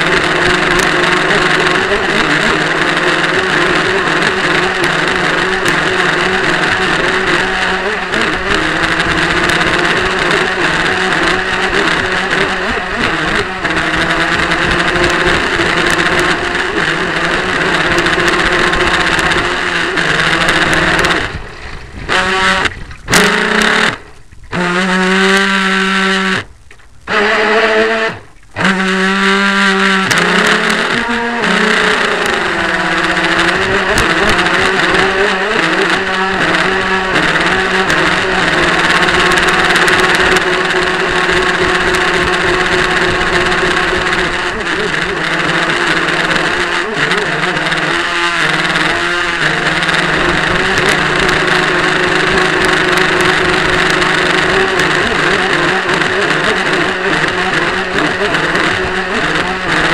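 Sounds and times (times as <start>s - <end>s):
model boat motor running: 0.0s - 59.9s.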